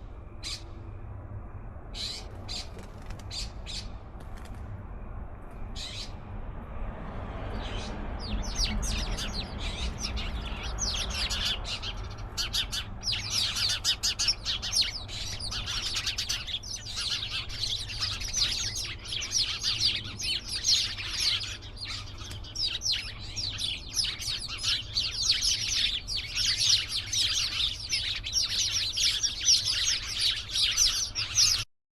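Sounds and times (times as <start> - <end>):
flock of small birds chirping: 0.0 - 0.8, 1.9 - 4.6, 5.7 - 6.2, 7.4 - 31.7.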